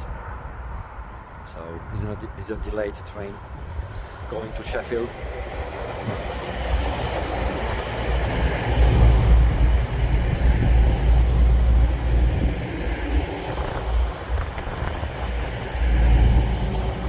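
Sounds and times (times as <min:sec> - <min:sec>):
diesel train rumbling: 0:02.6 - 0:17.0.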